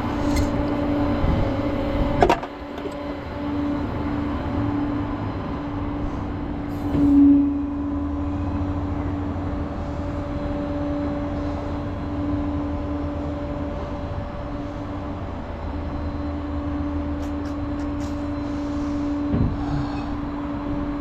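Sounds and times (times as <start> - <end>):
tow truck engine droning: 0.0 - 20.9.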